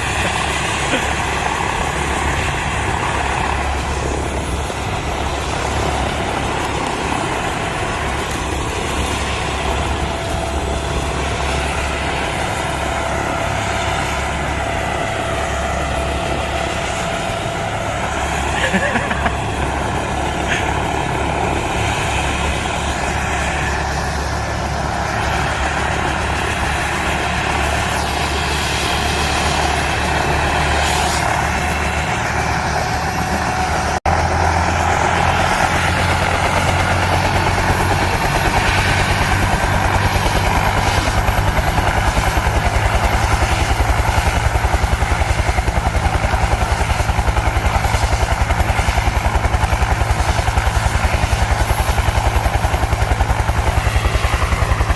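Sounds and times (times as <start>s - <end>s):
helicopter drone: 0.0s - 54.9s.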